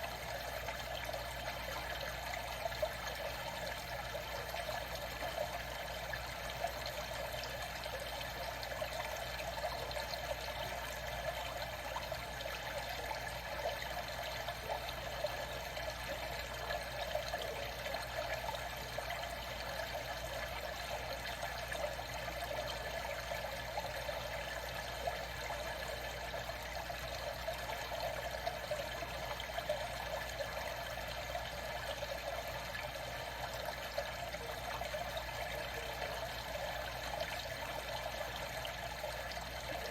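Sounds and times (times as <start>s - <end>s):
water trickling and lapping: 0.0s - 39.9s.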